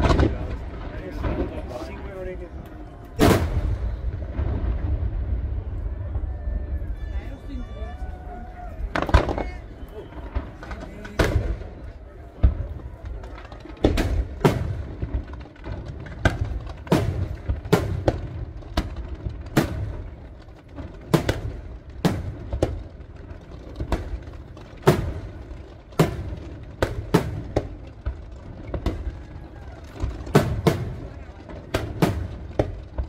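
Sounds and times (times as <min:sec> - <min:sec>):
fireworks bursting with sharp bangs: 0:00.0 - 0:33.0.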